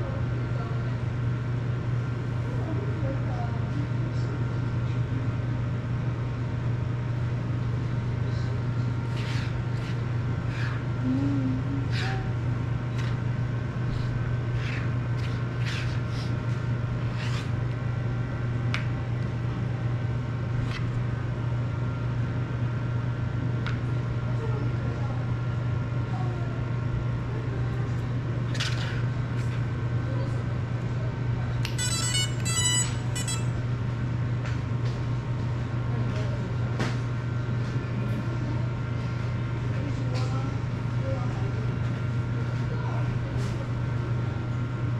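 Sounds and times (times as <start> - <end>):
low room hum: 0.0 - 44.9.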